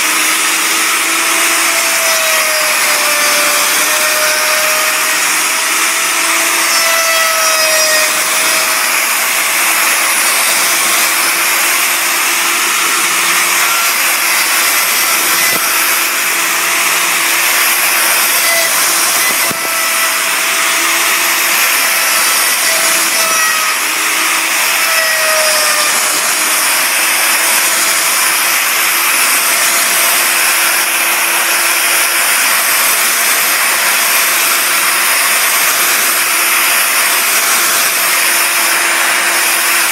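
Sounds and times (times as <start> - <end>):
saw blade cutting wood: 0.0 - 39.9
sawmill motor hum: 0.0 - 39.9.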